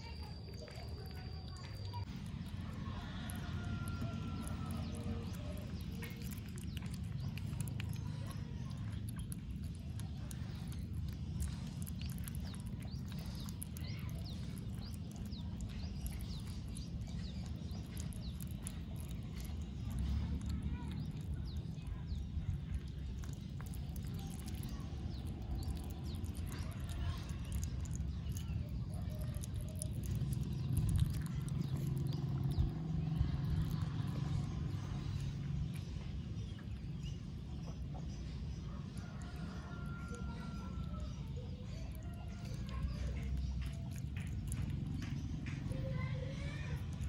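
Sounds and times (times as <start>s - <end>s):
low steady rumble: 0.0s - 47.0s
otter chewing and smacking: 0.0s - 47.0s.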